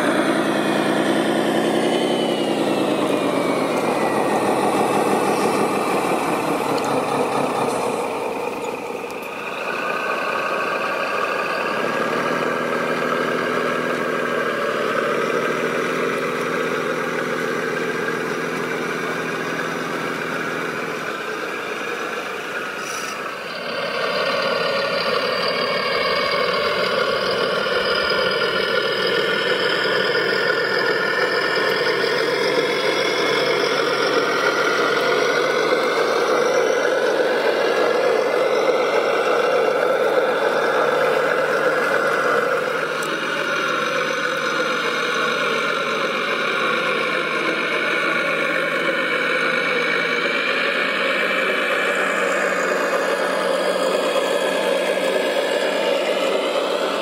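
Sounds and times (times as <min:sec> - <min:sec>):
whining tones gliding in pitch: 0:00.0 - 0:57.0.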